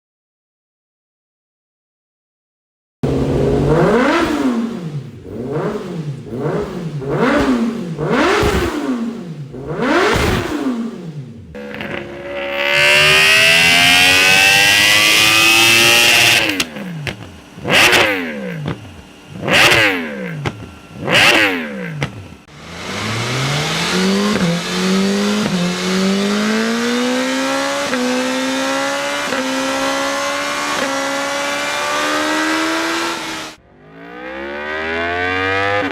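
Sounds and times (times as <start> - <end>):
motorcycle engine revving: 3.0 - 35.9.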